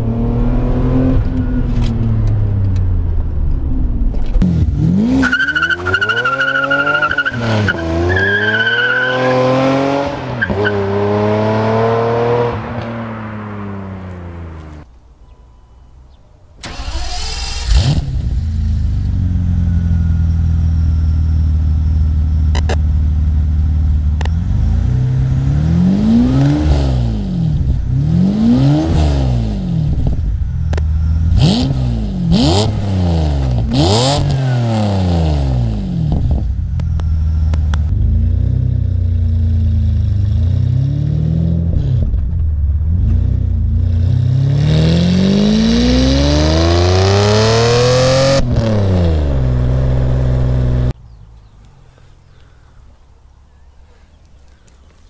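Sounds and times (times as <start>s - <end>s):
car engine idling and revving: 0.0s - 15.4s, 16.0s - 52.5s.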